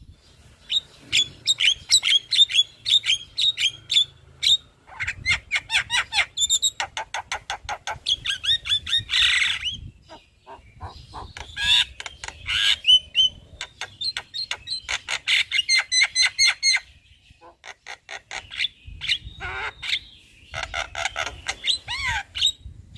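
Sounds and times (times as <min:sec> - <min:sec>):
bird chattering and whistling: 0:00.6 - 0:22.7.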